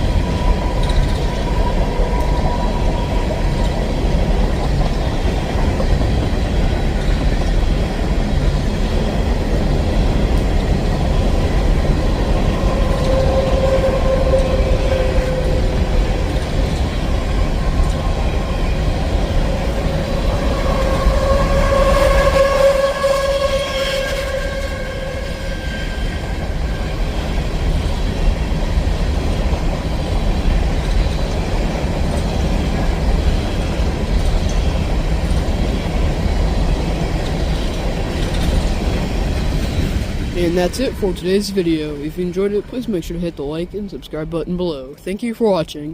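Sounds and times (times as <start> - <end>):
freight train rumbling over rails: 0.0 - 45.9.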